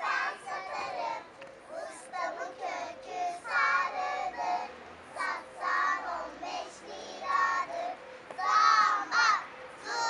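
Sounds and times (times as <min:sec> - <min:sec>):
children singing a chant: 0:00.0 - 0:10.0.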